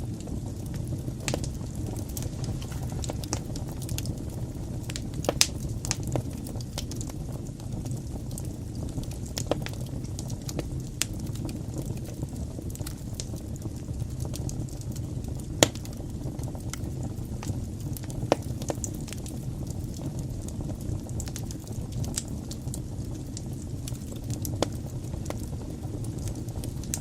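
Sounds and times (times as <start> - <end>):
fire crackles and pops: 0.0 - 27.0
wood fire burning: 0.0 - 27.0.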